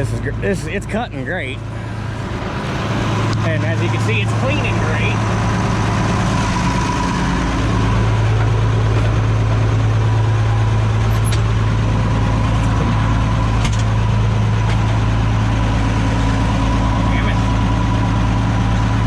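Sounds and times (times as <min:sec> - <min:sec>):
combine engine hum: 0:00.0 - 0:19.0.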